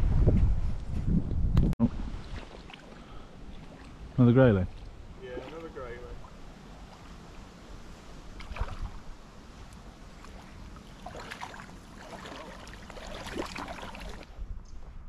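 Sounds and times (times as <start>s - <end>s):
water splashes: 1.8s - 14.4s
river water sloshing around legs: 2.0s - 14.4s.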